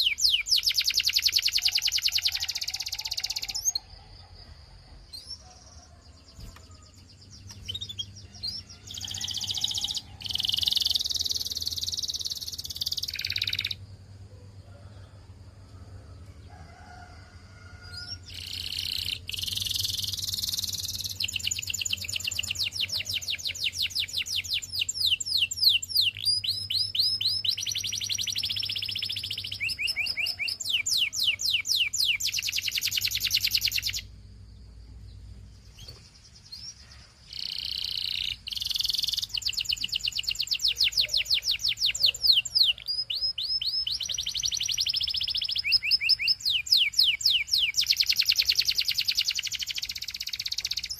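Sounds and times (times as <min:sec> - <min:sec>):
canary singing trills: 0:00.0 - 0:14.9, 0:17.8 - 0:50.9.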